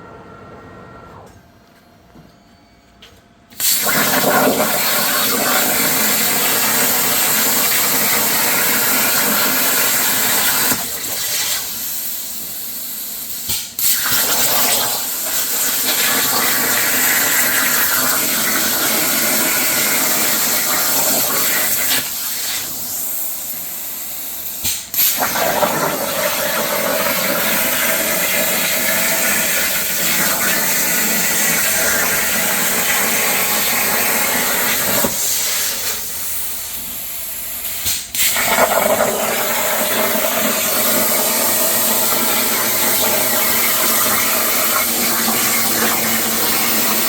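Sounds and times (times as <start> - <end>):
plasma cutter hissing: 3.6 - 38.6, 39.2 - 47.0.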